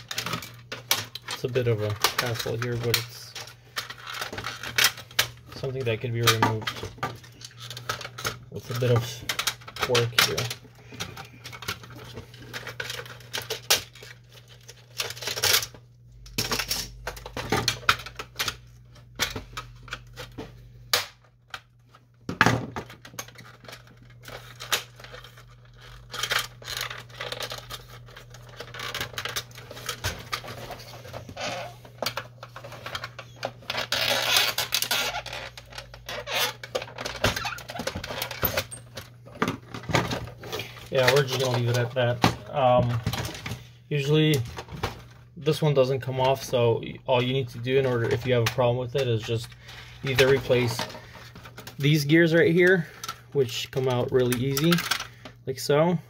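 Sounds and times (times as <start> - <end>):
plastic parts clicking and rattling: 0.0 - 56.0.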